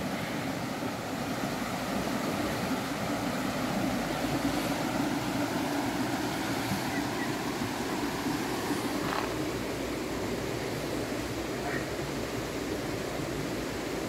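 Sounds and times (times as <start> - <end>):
river water rushing over weir: 0.0 - 14.0.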